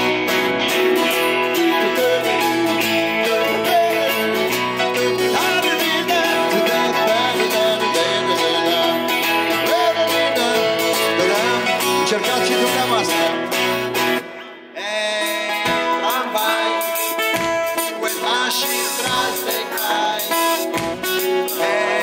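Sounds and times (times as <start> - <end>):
electric guitar: 0.0 - 22.0
keyboard: 0.0 - 22.0
strummed acoustic guitar: 0.0 - 22.0.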